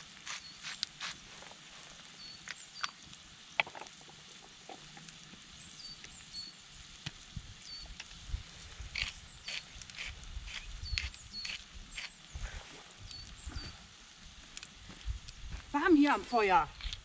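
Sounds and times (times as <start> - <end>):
campfire crackling and popping: 0.0 - 17.0
food sizzling in oil: 0.0 - 17.0.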